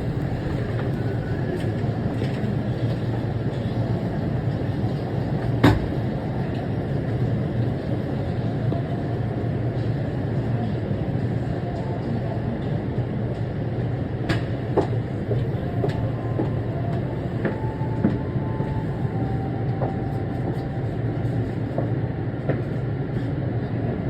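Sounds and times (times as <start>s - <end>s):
shuttle train running noise: 0.0s - 24.0s.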